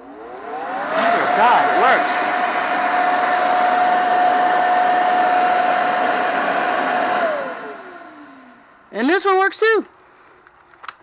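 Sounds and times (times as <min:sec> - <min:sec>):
motor whine: 0:00.0 - 0:09.0
blower air rush: 0:00.0 - 0:09.5.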